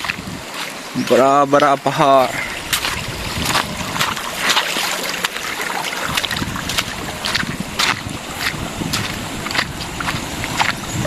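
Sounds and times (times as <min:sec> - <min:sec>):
wind on microphone: 0:00.0 - 0:01.1, 0:02.3 - 0:11.0
rushing river water: 0:00.0 - 0:11.0.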